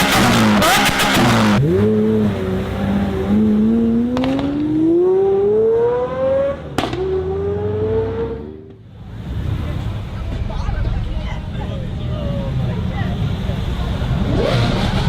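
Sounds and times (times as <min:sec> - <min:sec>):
car engine accelerating hard: 0:00.0 - 0:10.4, 0:11.9 - 0:15.0.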